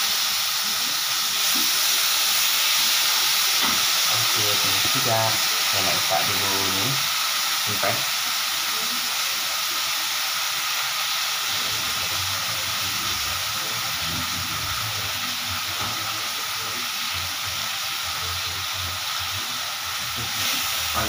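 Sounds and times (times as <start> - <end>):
chili paste sizzling in oil: 0.0 - 21.0.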